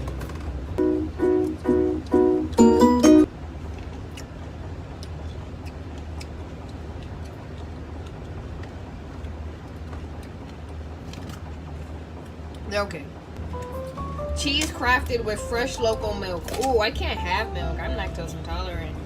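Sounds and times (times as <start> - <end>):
refrigerator humming: 0.0 - 19.0
room fan running: 0.0 - 19.0.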